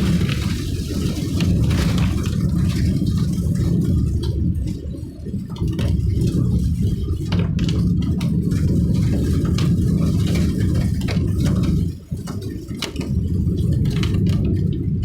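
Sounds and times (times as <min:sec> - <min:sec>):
vehicle engine and tyres rumble: 0:00.0 - 0:15.0.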